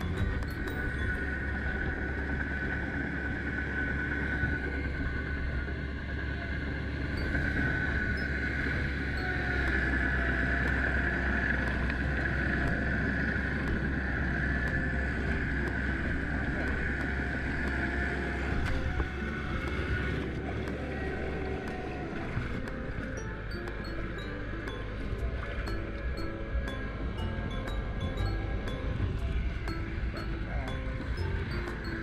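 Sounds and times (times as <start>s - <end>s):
steady high whine: 0.0s - 32.0s
tractor engine running: 0.0s - 32.0s.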